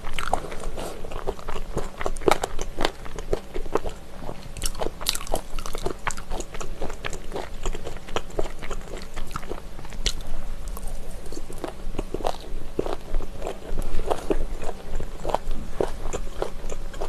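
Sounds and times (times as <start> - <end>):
crunchy chewing: 0.0 - 17.0.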